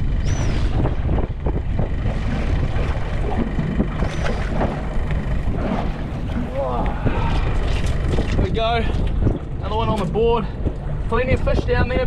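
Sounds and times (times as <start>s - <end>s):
water splashing against boat: 0.0s - 12.0s
wind buffeting microphone: 0.0s - 12.0s.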